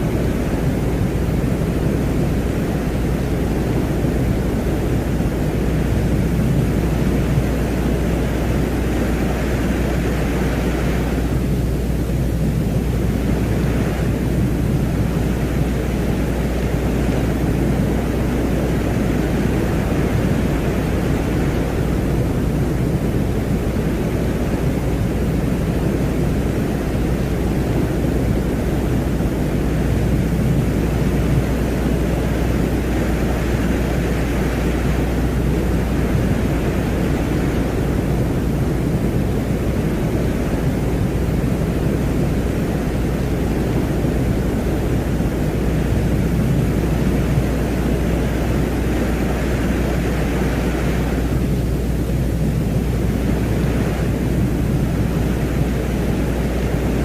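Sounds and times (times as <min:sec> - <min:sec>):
low rumbling noise: 0:00.0 - 0:57.0.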